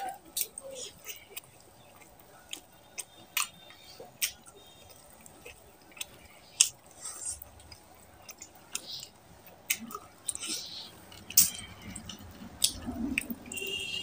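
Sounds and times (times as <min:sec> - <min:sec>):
wet chewing and lip smacks: 0:00.3 - 0:13.6.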